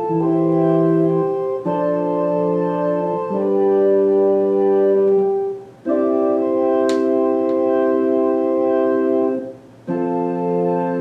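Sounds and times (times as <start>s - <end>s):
electronic organ chords: 0.0s - 11.0s.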